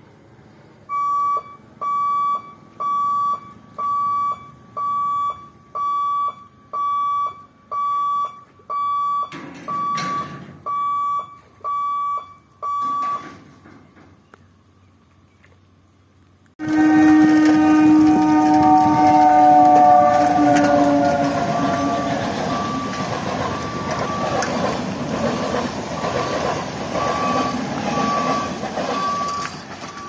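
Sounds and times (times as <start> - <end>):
level crossing warning beeps: 0.9 - 13.4, 17.1 - 24.7, 25.9 - 30.0.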